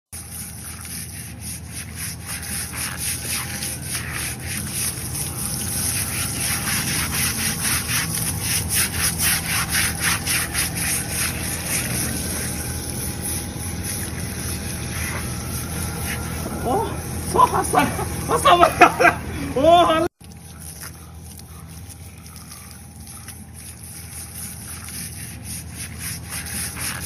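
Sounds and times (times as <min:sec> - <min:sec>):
stiff brush scrubbing wet hide: 0:00.1 - 0:19.2, 0:20.2 - 0:27.0
hose water running: 0:00.2 - 0:19.2, 0:20.2 - 0:27.0.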